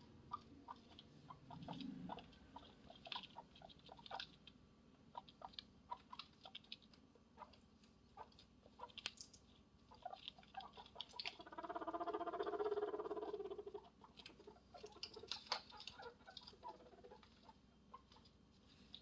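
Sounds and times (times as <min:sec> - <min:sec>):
guinea pig rumbling: 0:00.0 - 0:19.0.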